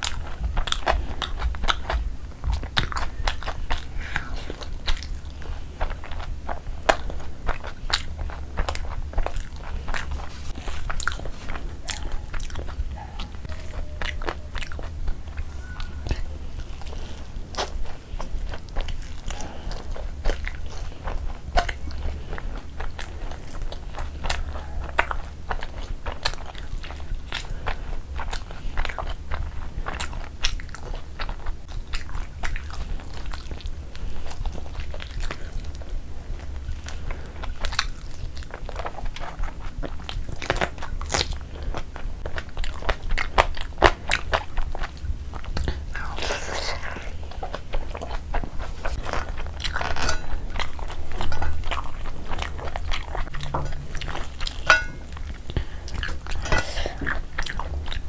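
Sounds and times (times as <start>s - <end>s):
person chewing food: 0.0s - 58.0s
steady low hum: 0.0s - 58.0s.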